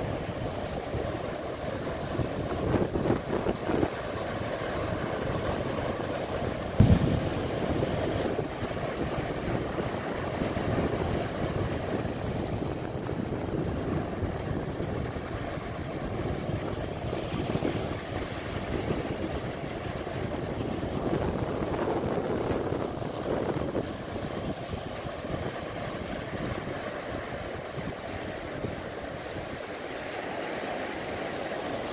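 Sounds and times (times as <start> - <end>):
small waves breaking on beach: 0.0 - 31.9
wind on microphone: 0.0 - 31.9.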